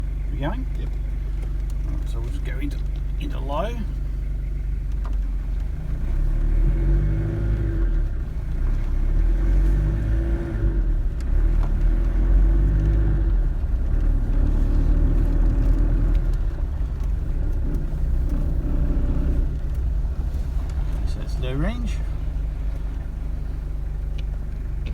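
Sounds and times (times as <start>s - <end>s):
engine running at low revs: 0.0s - 24.9s.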